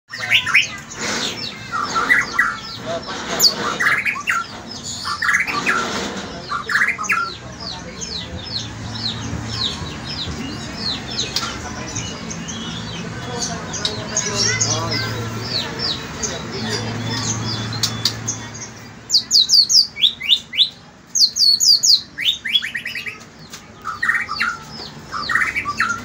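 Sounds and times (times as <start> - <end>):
bird singing whistles and chatter: 0.1 - 26.0.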